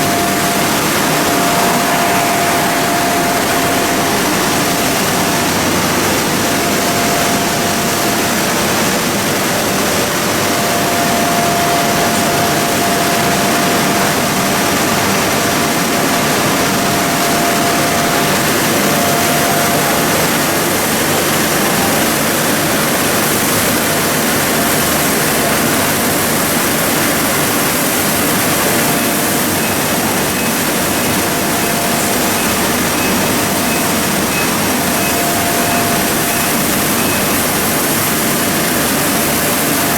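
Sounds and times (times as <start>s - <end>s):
faint machine whine: 0.0s - 39.9s
loud mechanical machine noise: 0.0s - 39.9s.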